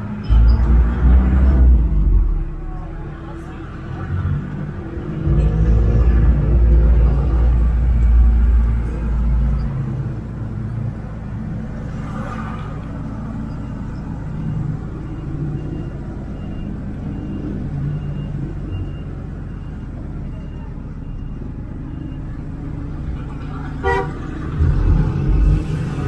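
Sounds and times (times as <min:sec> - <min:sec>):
jeep engine and road rumble: 0:00.0 - 0:26.0.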